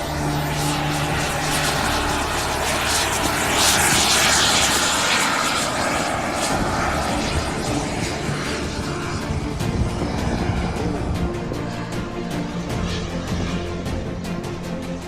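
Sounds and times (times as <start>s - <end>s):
model airplane engine passing: 0.0s - 14.2s.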